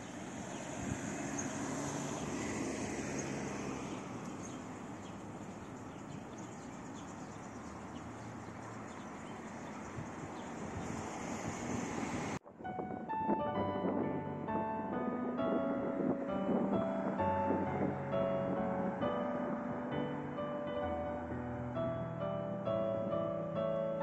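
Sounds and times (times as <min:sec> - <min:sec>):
passing vehicle engines humming: 0:00.0 - 0:12.4, 0:14.0 - 0:22.0
road traffic: 0:00.0 - 0:12.4, 0:13.6 - 0:24.0.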